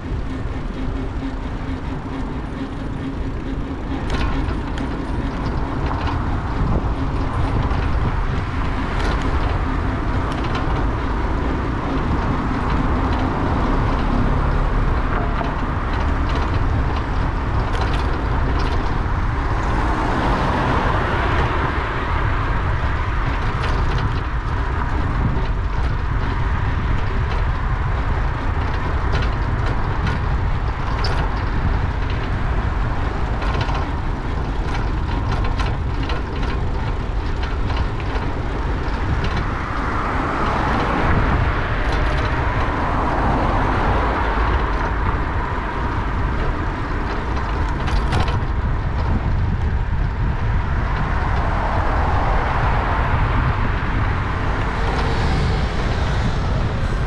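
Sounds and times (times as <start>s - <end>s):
bicycle clicks and rattles: 0.0s - 57.0s
motor traffic passing: 0.0s - 57.0s
wind and road noise: 0.0s - 57.0s.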